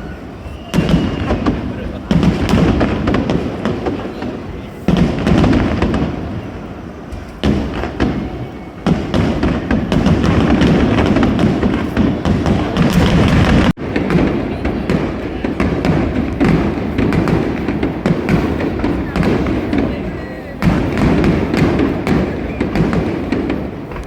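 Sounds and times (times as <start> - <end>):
fireworks booming: 0.0 - 24.0
fireworks crackling: 0.0 - 24.0.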